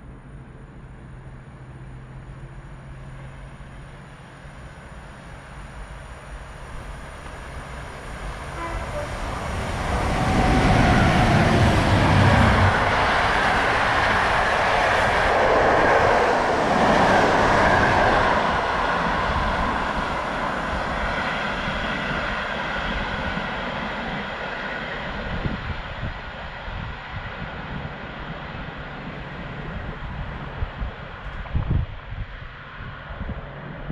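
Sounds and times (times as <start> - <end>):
passenger train passing: 0.0 - 33.9.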